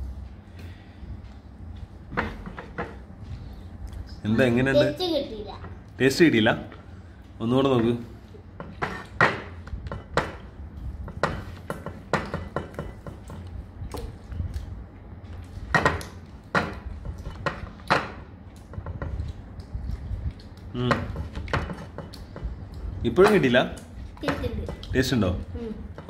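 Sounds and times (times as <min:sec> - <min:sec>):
low rumble of handling noise: 0:00.0 - 0:26.0.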